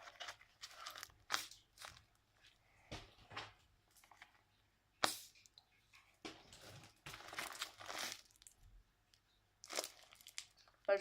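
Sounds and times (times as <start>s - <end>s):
rustles and crinkles: 0.0s - 11.0s.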